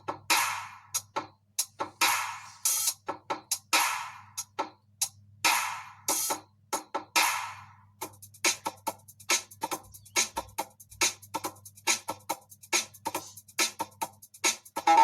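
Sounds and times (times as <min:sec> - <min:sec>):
drum-machine beat: 0:00.0 - 0:15.0.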